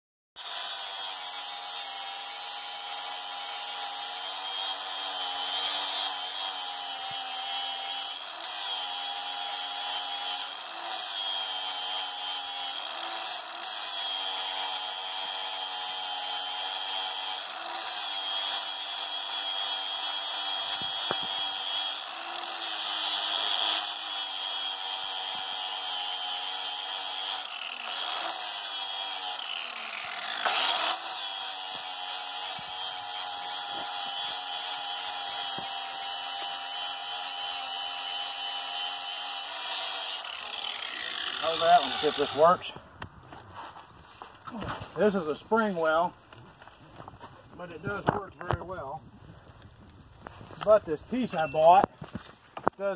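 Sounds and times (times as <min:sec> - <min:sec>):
angle grinder grinding metal: 0:00.4 - 0:42.8, 0:44.8 - 0:46.7, 0:50.2 - 0:52.9.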